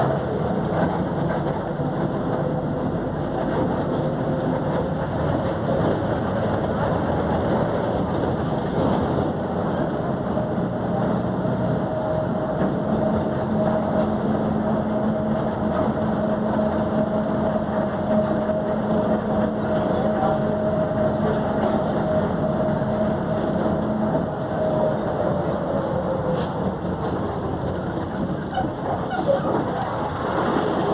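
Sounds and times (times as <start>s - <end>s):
bus engine: 0.0s - 30.9s
road noise: 0.0s - 30.9s.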